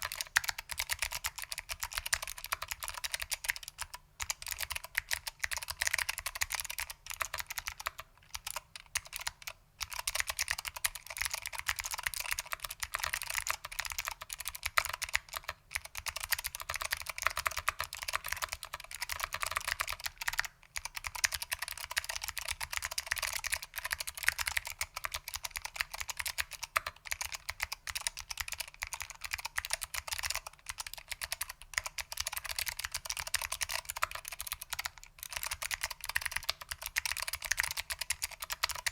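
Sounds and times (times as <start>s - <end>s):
fast clicky keyboard typing: 0.0s - 38.9s.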